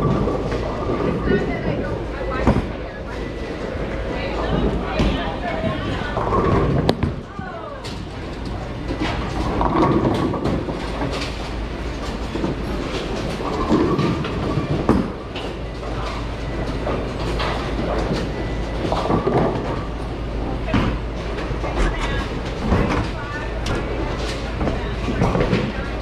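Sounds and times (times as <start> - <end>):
bowling ball rolling: 0.0 - 26.0.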